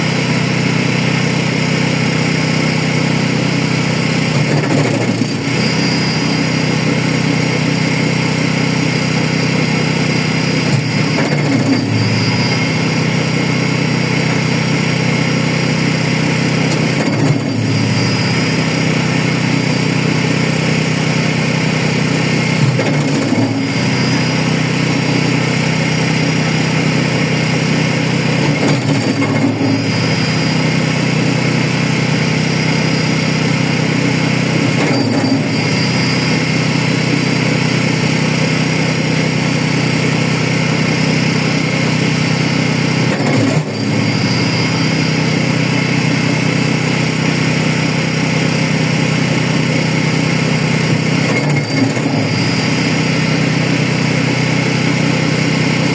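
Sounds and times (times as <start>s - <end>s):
wood chipper chipping branches: 0.0s - 55.9s.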